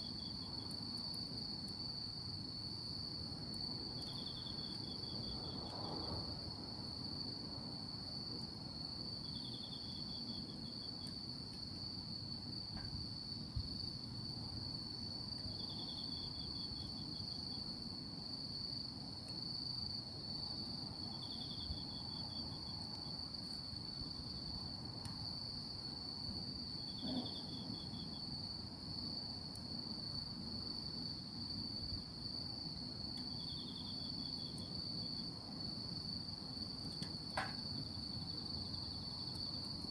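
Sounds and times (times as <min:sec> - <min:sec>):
low steady hiss: 0:00.0 - 0:39.9.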